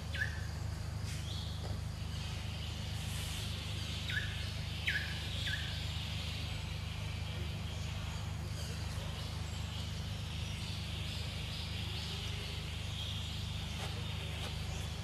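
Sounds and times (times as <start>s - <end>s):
constant low hum: 0.0s - 15.0s
faint bird chirps: 0.0s - 15.0s
high insect drone: 0.0s - 15.0s.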